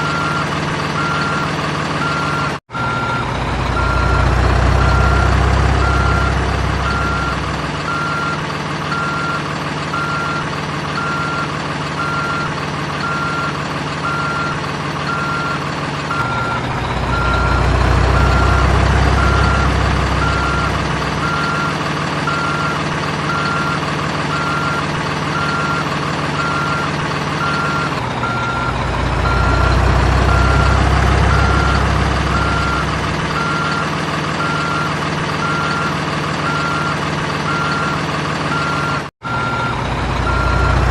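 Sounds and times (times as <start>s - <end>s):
reversing beeper: 0.0s - 40.9s
simulated diesel engine drone: 0.0s - 40.9s.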